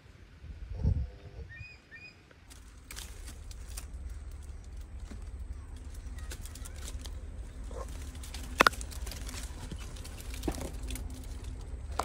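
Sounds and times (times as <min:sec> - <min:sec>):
low rumble of wind: 0:00.0 - 0:12.0
crackles and rustles: 0:02.4 - 0:12.0.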